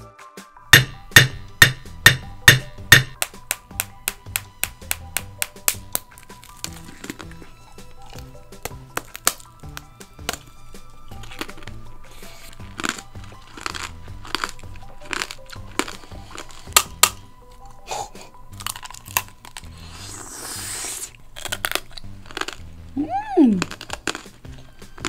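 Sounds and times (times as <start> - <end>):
background music: 0.0 - 25.0
candy crunching while chewed: 3.2 - 25.0.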